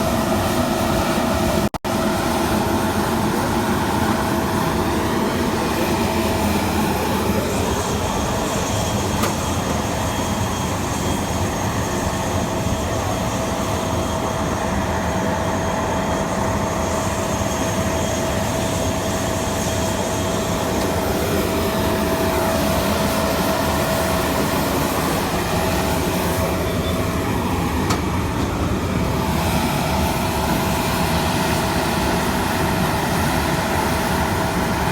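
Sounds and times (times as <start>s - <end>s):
aircraft engines rushing: 0.0s - 34.9s
constant engine whine: 0.0s - 34.9s.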